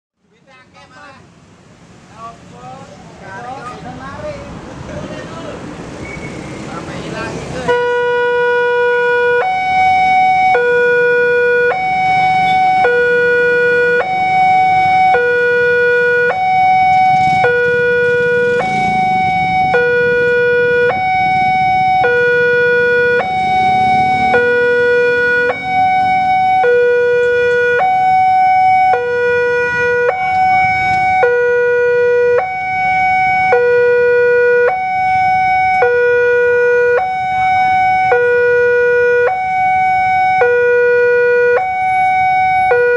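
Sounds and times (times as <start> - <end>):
faint motorcycle and car engines: 0.2 - 42.9
two-tone crossing alarm: 7.6 - 42.9.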